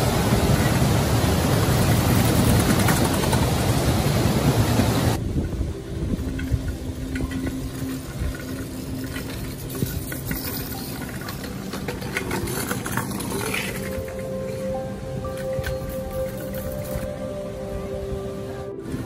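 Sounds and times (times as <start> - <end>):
scooter wheels rolling on pavement: 0.0 - 19.0.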